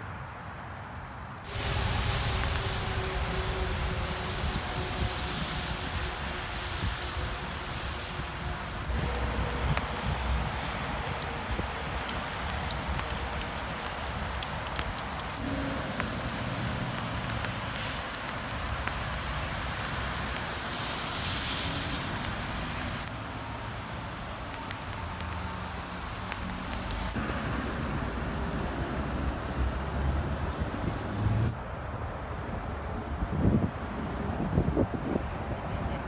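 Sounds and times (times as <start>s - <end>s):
road traffic hiss: 0.0s - 36.0s
wind rumbling on microphone: 1.3s - 23.1s, 26.2s - 36.0s.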